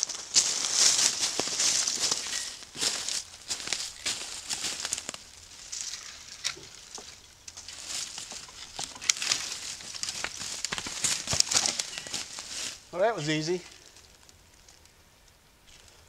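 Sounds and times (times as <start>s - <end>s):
footsteps crunching through leaves: 0.0s - 14.0s
twigs snapping underfoot: 0.0s - 16.0s.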